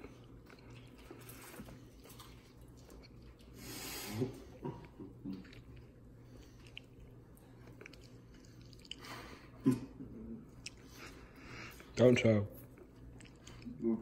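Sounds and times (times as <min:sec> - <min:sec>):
people chewing with wet clicks: 0:00.0 - 0:14.0.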